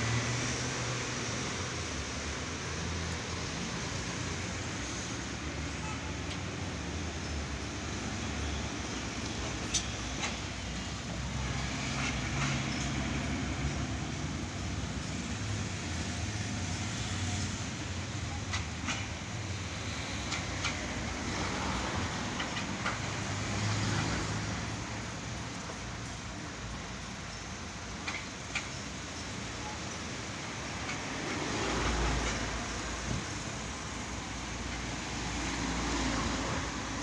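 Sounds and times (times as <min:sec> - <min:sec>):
street and vehicle noise: 0:00.0 - 0:37.0.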